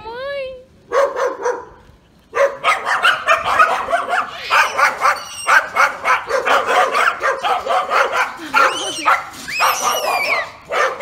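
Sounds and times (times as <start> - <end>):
dog barking: 0.9 - 11.0.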